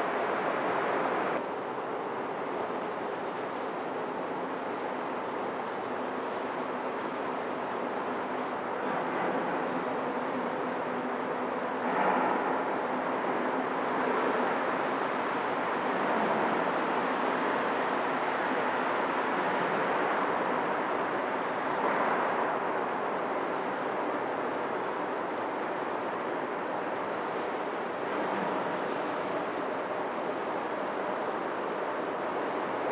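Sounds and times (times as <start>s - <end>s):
distant harbour noise over water: 0.0s - 32.9s
faint steady hum: 0.0s - 32.9s.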